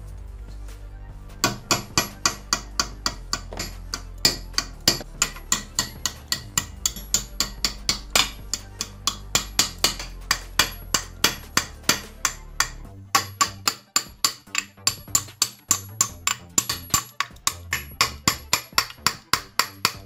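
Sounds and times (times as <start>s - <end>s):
hammer tapping on metal: 1.4s - 20.0s.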